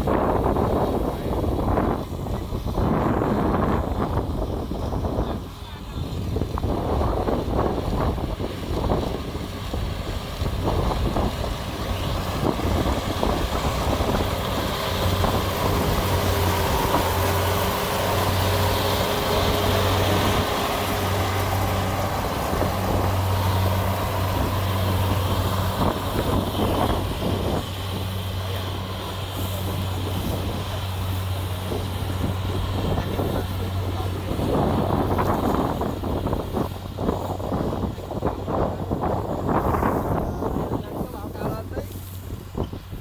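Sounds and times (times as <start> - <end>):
combine harvester engine drone: 0.0 - 43.0
faint machinery whine: 0.0 - 43.0.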